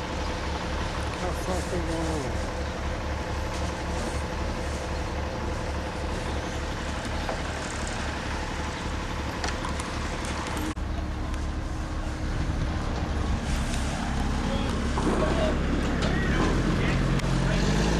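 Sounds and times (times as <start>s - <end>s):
large vehicle engine rumbling: 0.0s - 17.9s.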